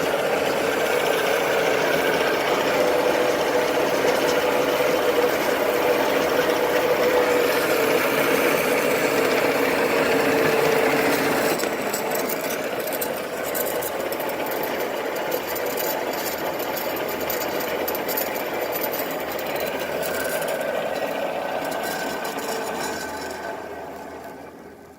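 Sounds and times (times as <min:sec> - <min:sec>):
band saw running: 0:00.0 - 0:24.9.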